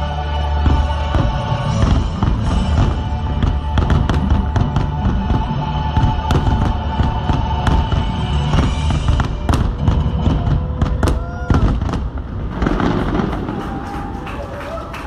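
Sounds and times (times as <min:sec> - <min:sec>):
music soundtrack: 0:00.0 - 0:14.2
fireworks bursting and crackling: 0:00.0 - 0:15.0.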